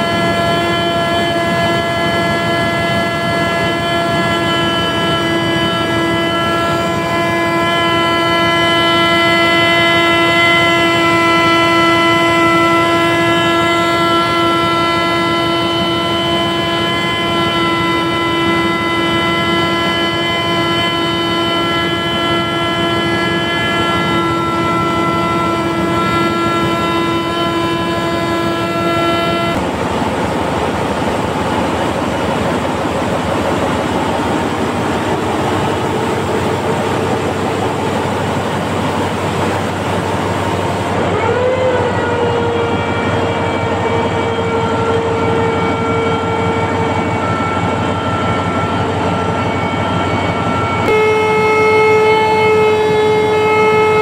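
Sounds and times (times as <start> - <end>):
grinding machine whining: 0.0 - 54.0.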